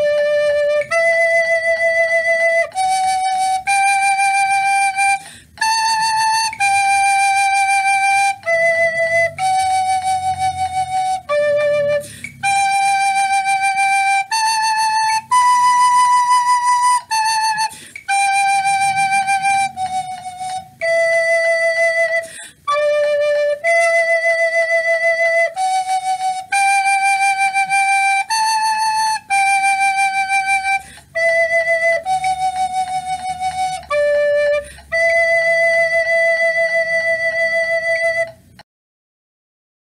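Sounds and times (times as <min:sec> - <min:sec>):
recorder playing slow melody: 0:00.0 - 0:38.6.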